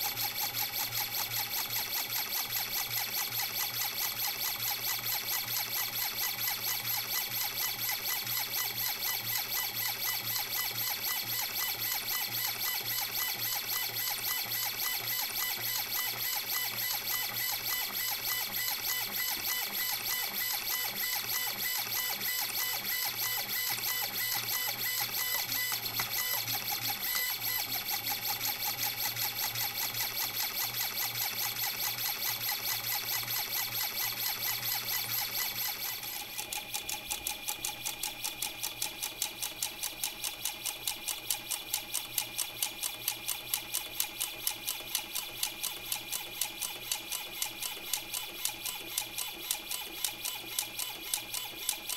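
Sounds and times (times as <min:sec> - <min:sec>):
stepper motor whine and ticking: 0:00.0 - 0:51.9.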